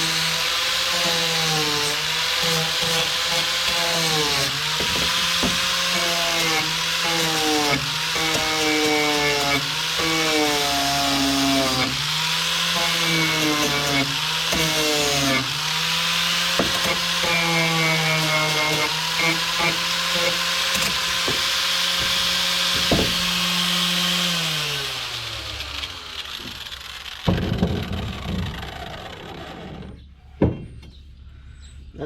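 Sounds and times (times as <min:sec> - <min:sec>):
power tool grinding sheet metal: 0:00.0 - 0:30.1.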